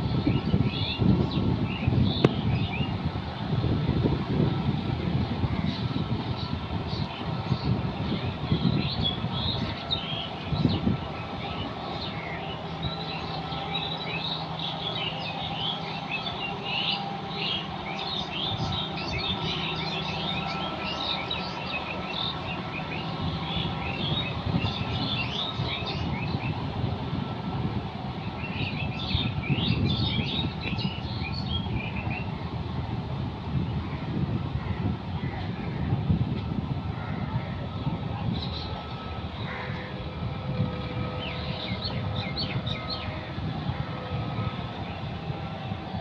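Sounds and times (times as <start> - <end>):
birds chirping: 0.0 - 3.7, 5.2 - 32.6, 37.0 - 46.0
tractor diesel engine drone: 0.0 - 46.0.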